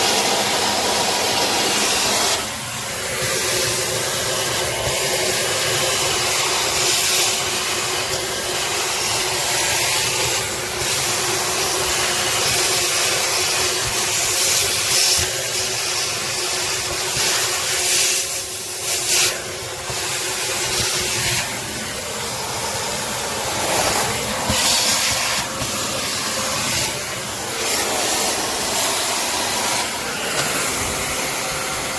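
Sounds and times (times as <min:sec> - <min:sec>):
air hiss: 0:00.0 - 0:31.9
vacuum cleaner motor whine: 0:00.0 - 0:31.9.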